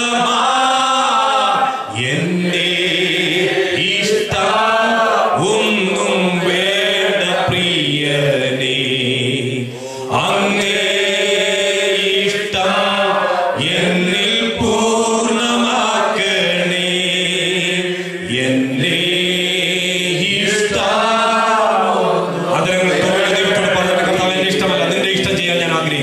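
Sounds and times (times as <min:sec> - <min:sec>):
slow worship song singing: 0:00.0 - 0:26.0.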